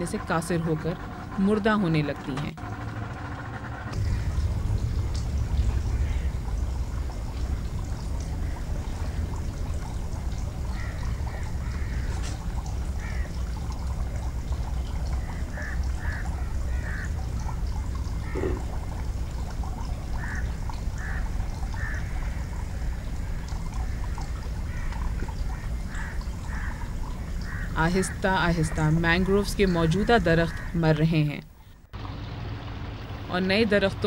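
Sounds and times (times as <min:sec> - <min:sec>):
low motor rumble: 0:00.0 - 0:34.0.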